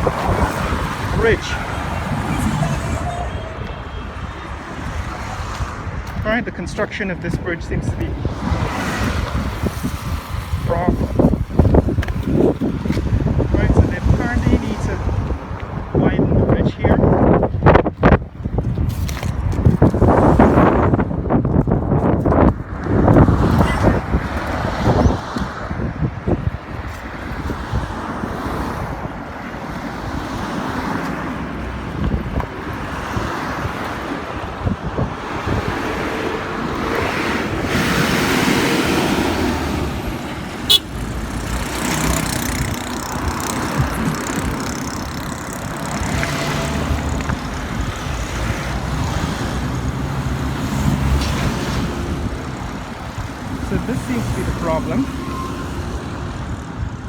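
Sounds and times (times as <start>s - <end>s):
cars and trucks driving past: 0.0s - 18.2s, 22.3s - 57.0s
wind buffeting microphone: 0.0s - 57.0s.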